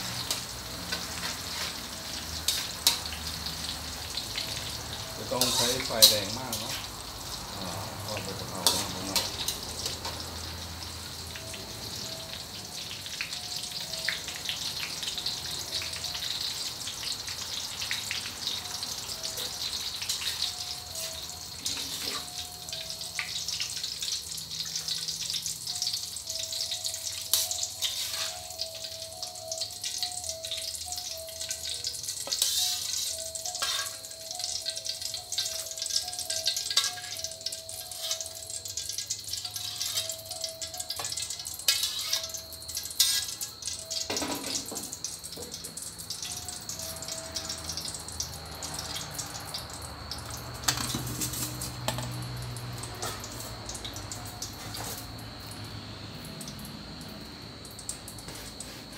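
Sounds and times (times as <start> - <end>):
leaves deep-frying in hot oil: 0.0 - 58.9.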